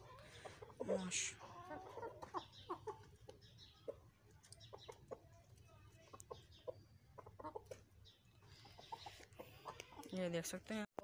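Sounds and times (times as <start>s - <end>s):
chickens clucking: 0.0s - 10.4s.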